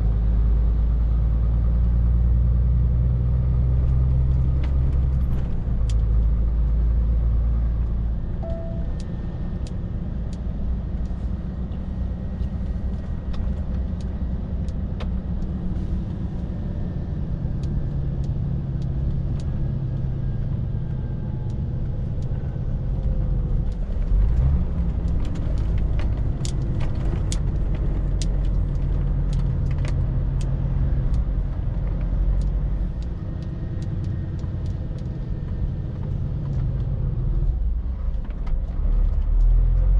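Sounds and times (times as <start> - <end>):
lorry diesel engine droning: 0.0 - 39.9
road noise: 0.0 - 39.9.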